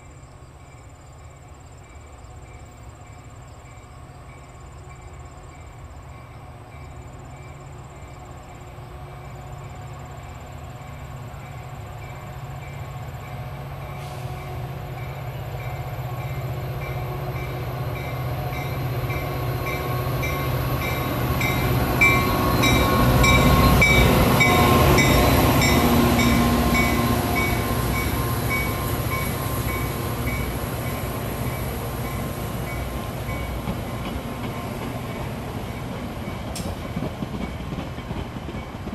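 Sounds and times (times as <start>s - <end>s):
diesel locomotive engine: 0.0s - 38.9s
train wheels on rail: 0.0s - 38.9s.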